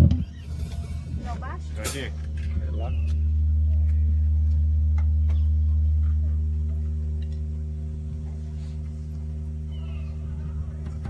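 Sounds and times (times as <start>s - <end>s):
low electrical hum through speakers: 0.0s - 11.0s.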